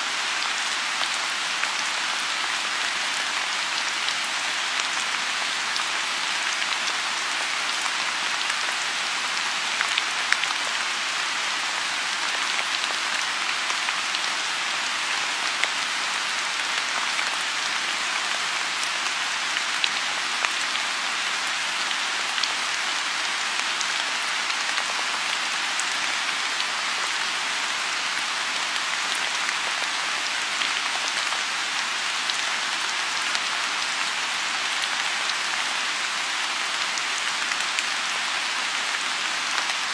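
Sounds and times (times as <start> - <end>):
rain falling on a pond: 0.0 - 39.9.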